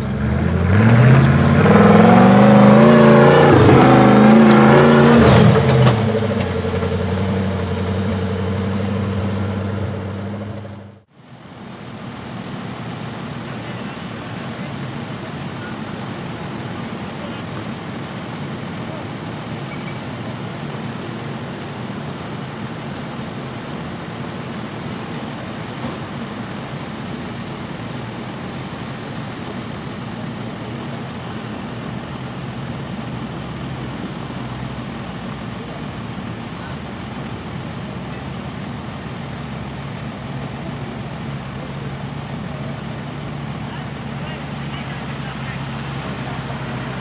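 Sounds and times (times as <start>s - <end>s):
truck engine running steadily: 0.0s - 47.0s.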